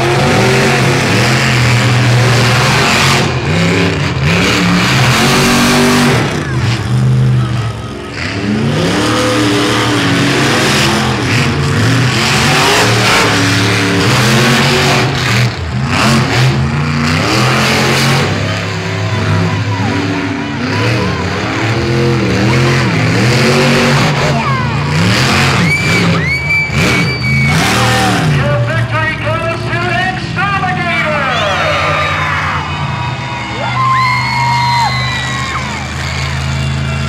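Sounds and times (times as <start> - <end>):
monster truck engines revving: 0.0 - 37.0.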